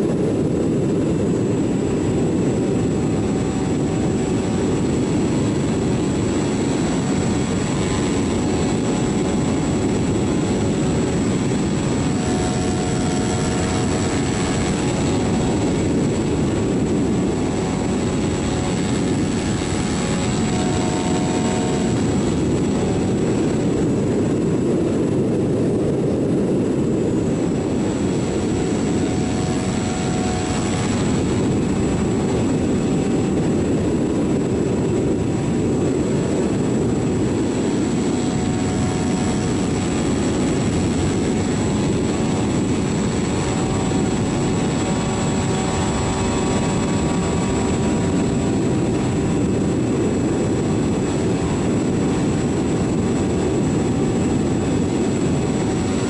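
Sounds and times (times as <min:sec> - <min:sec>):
model airplane motor whine: 0:00.0 - 0:56.0
wind rush on microphone: 0:00.0 - 0:56.0.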